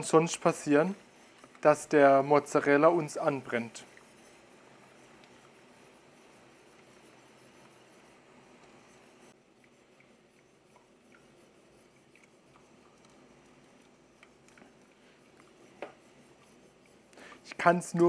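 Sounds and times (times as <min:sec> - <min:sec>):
whisk stirring sauce in a pot: 0:00.0 - 0:18.0
whisk ticking against a pot: 0:00.0 - 0:18.0.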